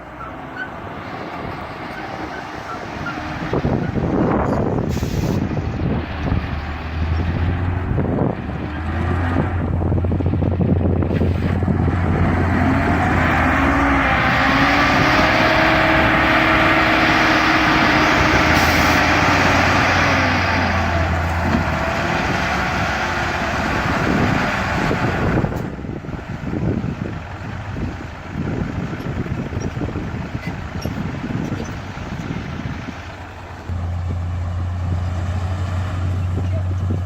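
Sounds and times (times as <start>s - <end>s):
heavy diesel engine under load: 0.0s - 37.0s.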